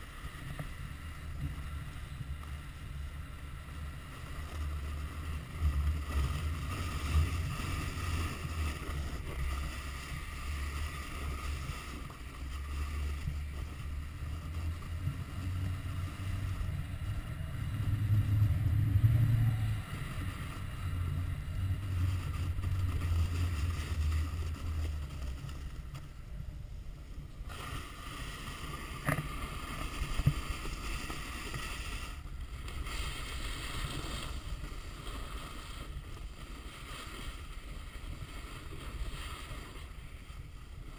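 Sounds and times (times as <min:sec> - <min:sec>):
snowboard sliding over snow: 0:00.0 - 0:40.9
wind buffeting microphone: 0:00.9 - 0:36.5.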